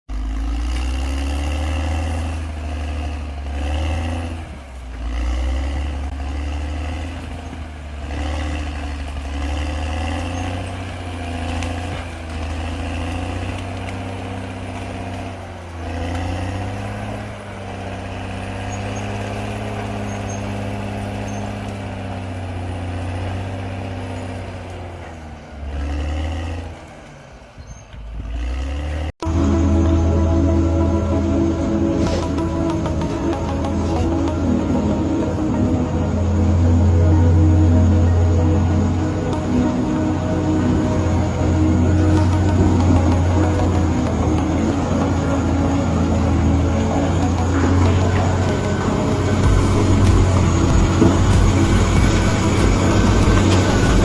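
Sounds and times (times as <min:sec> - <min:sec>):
heavy diesel engine revving: 0:00.0 - 0:54.0.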